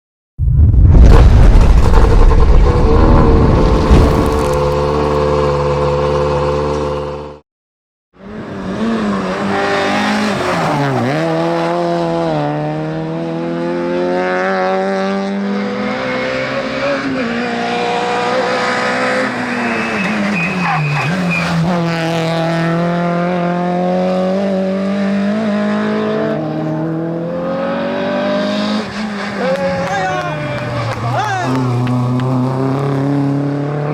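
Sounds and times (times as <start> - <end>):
rally car engine at high revs: 1.7 - 7.4, 8.2 - 33.9.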